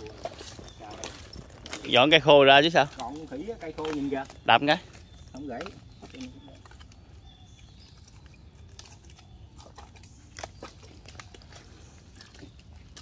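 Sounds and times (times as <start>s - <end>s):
wet mud squelching: 0.0s - 13.0s.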